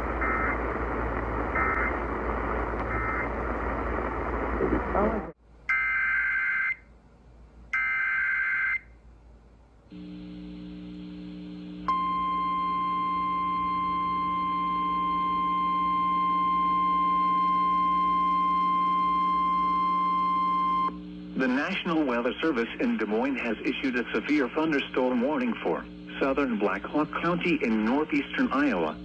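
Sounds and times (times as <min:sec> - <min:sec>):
low steady hum: 0:00.0 - 0:05.4, 0:09.0 - 0:29.0.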